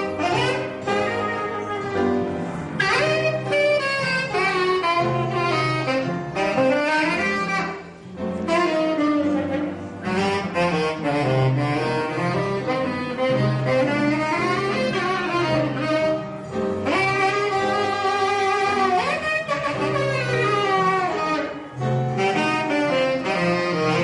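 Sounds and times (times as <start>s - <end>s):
double bass line: 0.0s - 24.0s
jazz saxophone solo: 0.0s - 24.0s.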